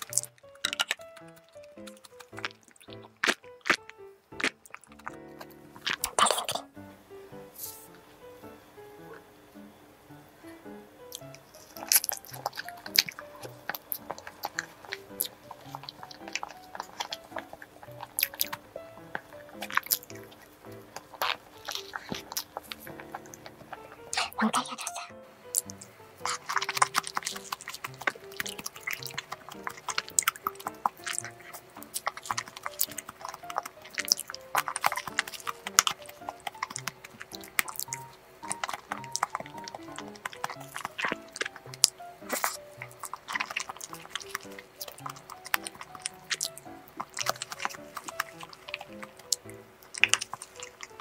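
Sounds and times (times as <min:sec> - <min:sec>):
mouth clicks: 0:00.0 - 0:06.7, 0:11.0 - 0:51.0
wet chewing and squishing: 0:00.0 - 0:06.7, 0:11.0 - 0:51.0
light background music: 0:00.0 - 0:51.0.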